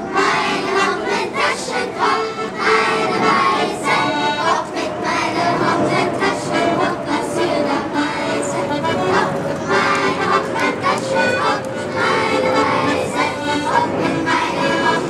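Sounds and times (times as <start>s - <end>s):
band with accordion: 0.0s - 15.0s
children's choir singing: 0.0s - 15.0s.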